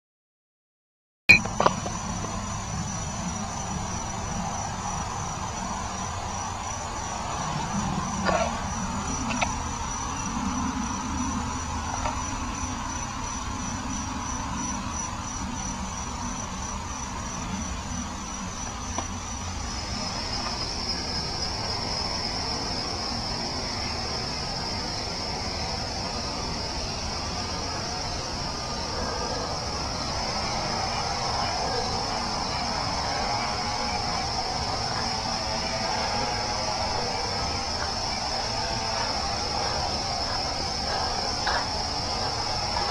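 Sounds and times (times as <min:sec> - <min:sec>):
crickets trilling: 0:01.3 - 0:42.9.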